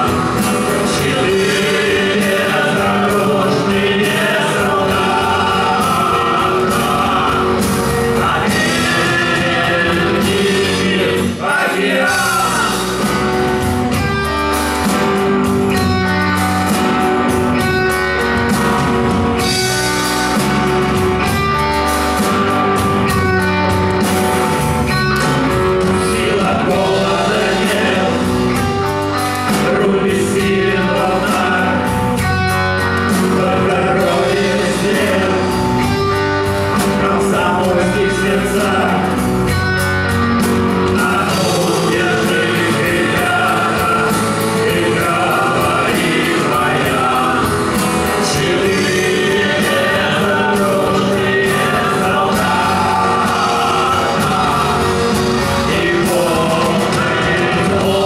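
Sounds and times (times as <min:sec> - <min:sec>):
electric guitar: 0:00.0 - 0:58.0
person singing: 0:00.0 - 0:58.0
rock band playing live: 0:00.0 - 0:58.0.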